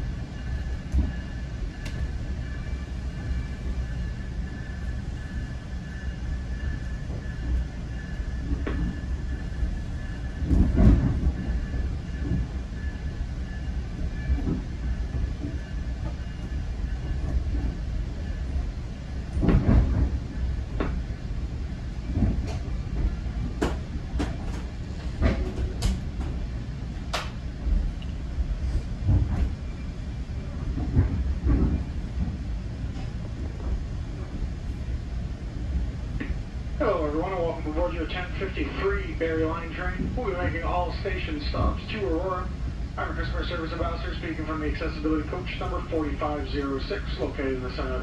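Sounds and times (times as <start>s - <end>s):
train rumbling: 0.0s - 48.0s.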